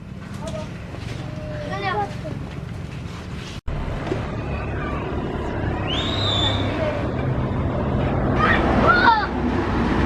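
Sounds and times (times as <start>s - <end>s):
bus engines rumbling: 0.0s - 10.0s
roadside traffic: 0.0s - 10.0s.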